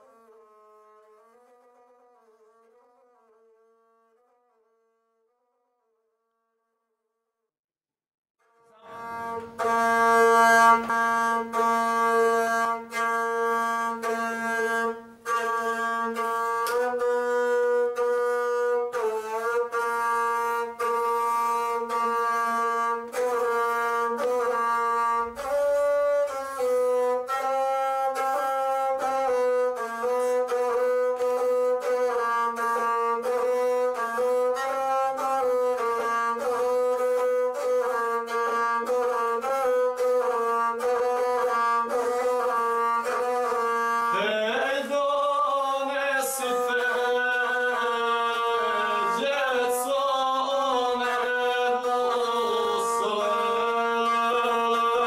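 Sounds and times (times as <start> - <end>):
bowed single-string fiddle melody: 0.0 - 4.5, 8.4 - 55.0.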